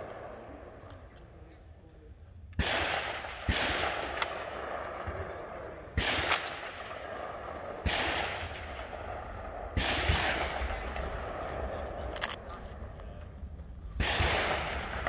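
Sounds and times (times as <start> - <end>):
rifle shots echoing: 0.0 - 1.4, 2.5 - 12.9, 13.8 - 15.0.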